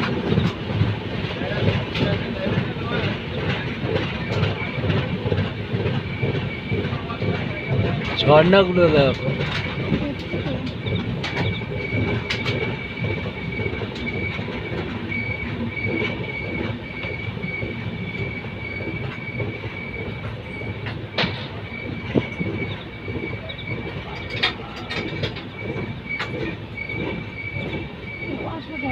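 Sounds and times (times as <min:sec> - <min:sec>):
train rumbling on rails: 0:00.0 - 0:28.9
high-pitched wheel squeal: 0:05.6 - 0:28.9.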